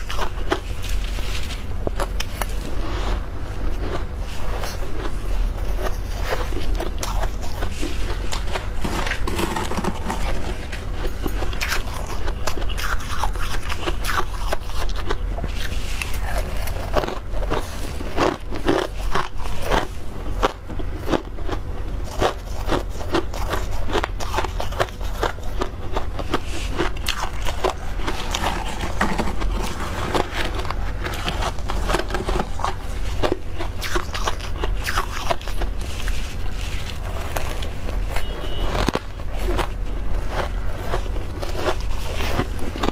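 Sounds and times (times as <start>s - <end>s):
frost being chewed: 0.0s - 42.9s.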